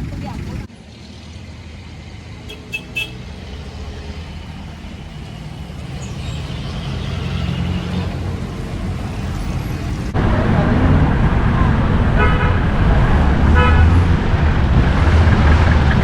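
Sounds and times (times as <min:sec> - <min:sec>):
traffic engines rumbling: 0:00.0 - 0:16.0.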